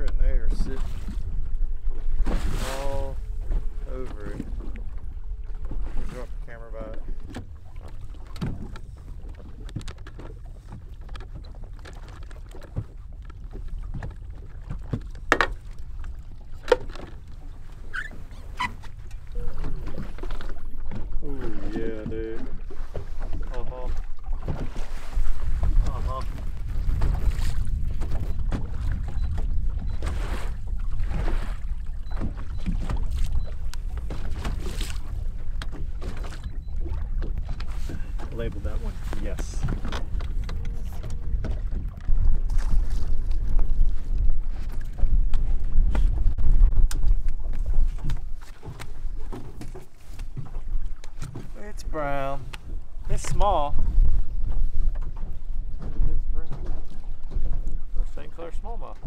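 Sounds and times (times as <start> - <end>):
waves splashing against boat hull: 0.0 - 59.0
wind and water rumble: 0.0 - 59.0.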